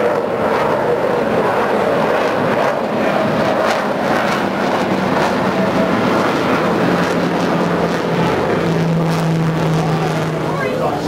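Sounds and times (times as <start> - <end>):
fighter jet roaring past: 0.0 - 11.0.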